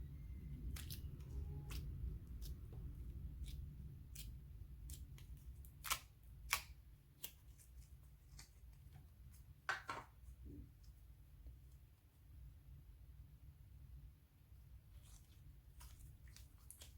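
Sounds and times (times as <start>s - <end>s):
low background hum: 0.0s - 16.9s.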